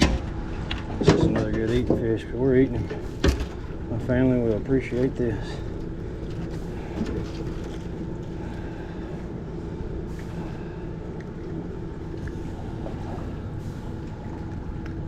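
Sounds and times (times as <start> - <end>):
low rumble of wind and water: 0.0 - 15.0
trolling motor humming: 0.0 - 15.0.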